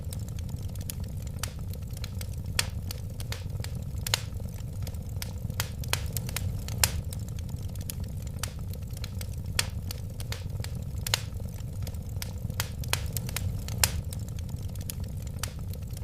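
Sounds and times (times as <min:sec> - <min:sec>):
low rumble of flames: 0:00.0 - 0:16.0
wood fire popping and snapping: 0:00.0 - 0:16.0.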